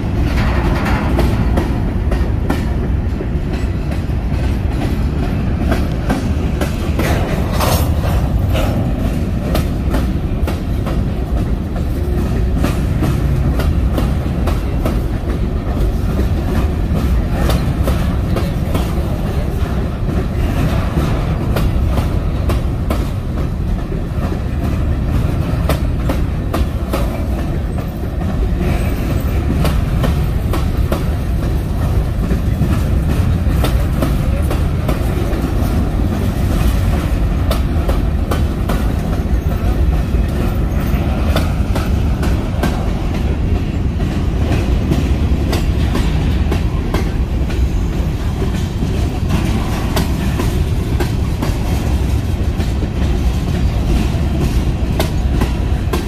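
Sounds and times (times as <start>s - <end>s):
railroad cars rumbling: 0.0s - 56.0s
wheels clicking over rail joints: 0.0s - 56.0s.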